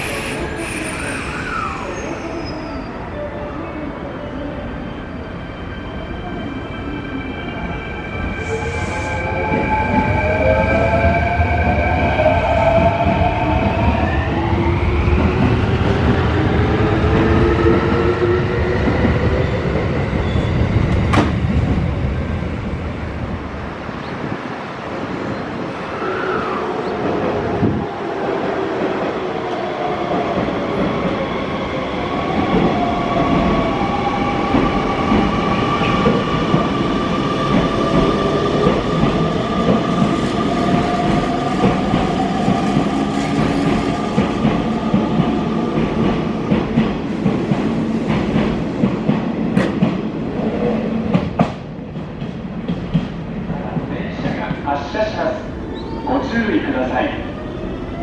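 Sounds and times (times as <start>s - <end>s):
train wheels rumbling on rails: 8.4s - 55.3s.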